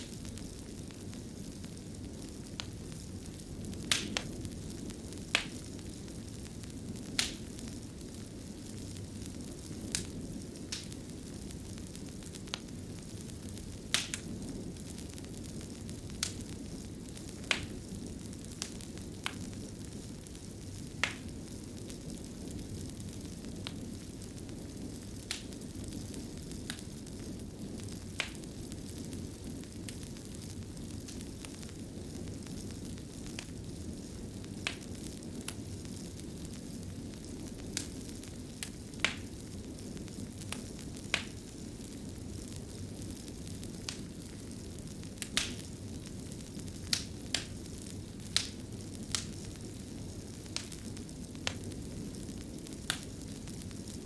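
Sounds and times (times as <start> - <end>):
fire rumbling in fireplace: 0.0 - 54.0
sharp crackling pops: 0.0 - 54.0.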